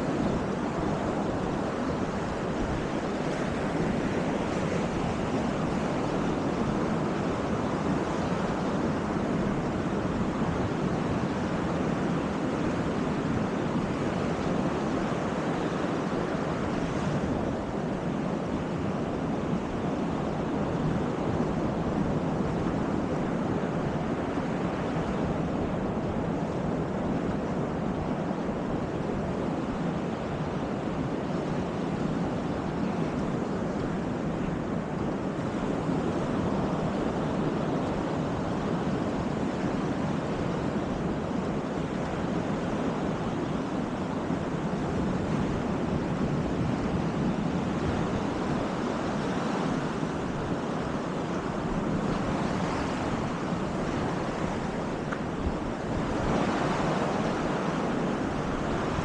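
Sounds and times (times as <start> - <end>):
surf washing onto beach: 0.0 - 59.0
wind on microphone: 0.0 - 59.0.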